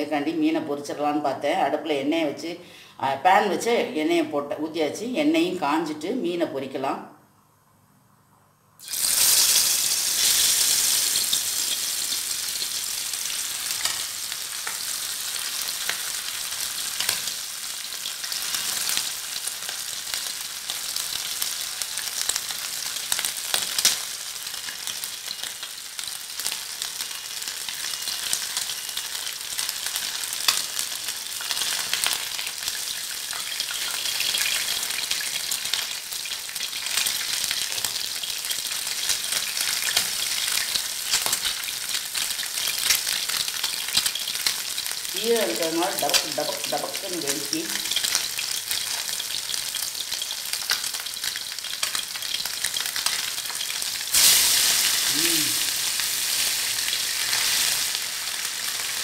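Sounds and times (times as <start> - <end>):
fish sizzling in hot oil: 8.8 - 59.0.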